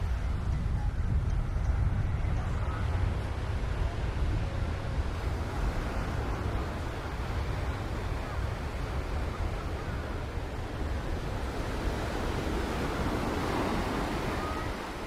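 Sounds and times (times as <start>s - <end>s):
wind rumbling on microphone: 0.0s - 15.0s
surf washing onto beach: 2.6s - 15.0s.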